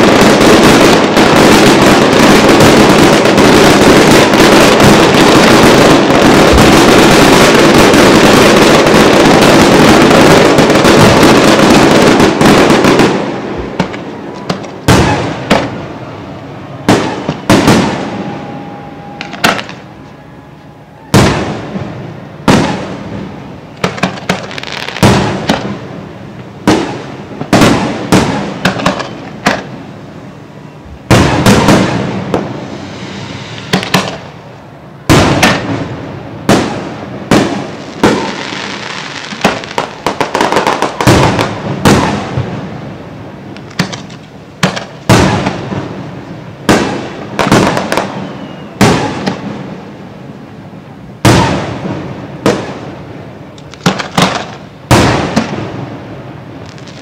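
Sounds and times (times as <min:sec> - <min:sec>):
firework shells booming: 0:00.0 - 0:16.0, 0:16.8 - 0:19.9, 0:21.1 - 0:29.9, 0:30.9 - 0:34.4, 0:35.0 - 0:42.9, 0:43.5 - 0:49.8, 0:51.2 - 0:53.0, 0:53.7 - 0:57.0
firework crackling: 0:00.0 - 0:57.0.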